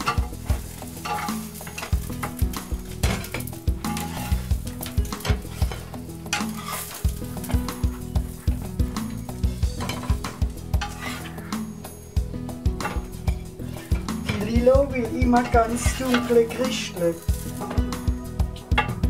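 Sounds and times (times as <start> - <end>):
dumplings sizzling in frying pan: 0.0 - 19.0.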